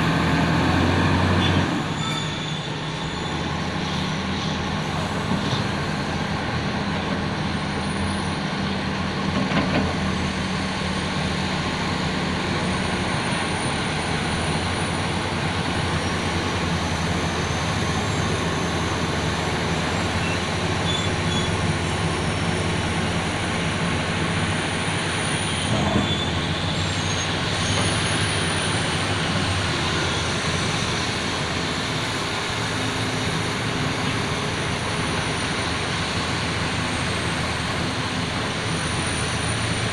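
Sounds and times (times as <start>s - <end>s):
diesel machinery engine hum: 0.0s - 39.9s.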